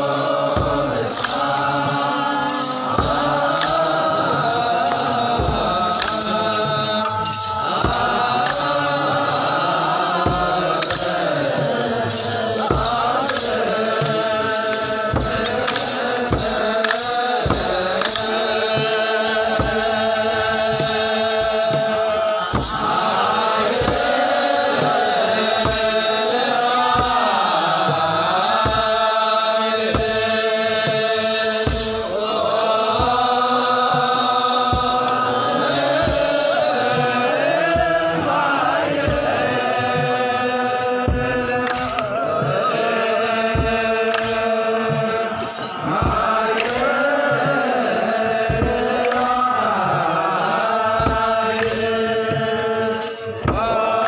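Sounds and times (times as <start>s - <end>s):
drum strokes: 0.0s - 54.0s
group chanting: 0.0s - 54.0s.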